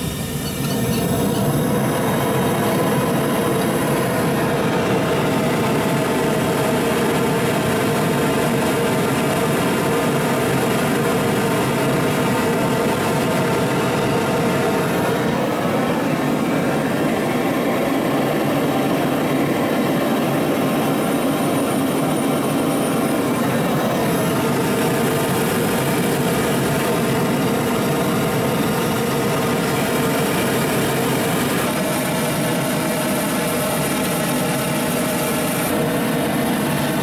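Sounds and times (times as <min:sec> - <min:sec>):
gas burner roaring: 0:00.0 - 0:37.0.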